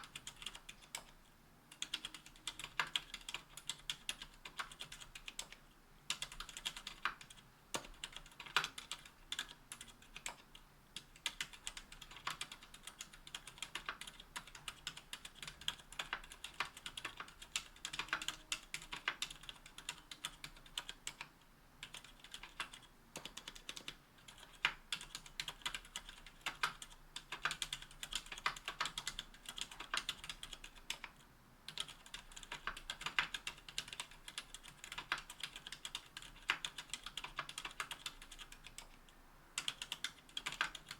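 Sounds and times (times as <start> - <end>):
typing on mechanical keyboard: 0.0 - 39.0, 39.6 - 40.9.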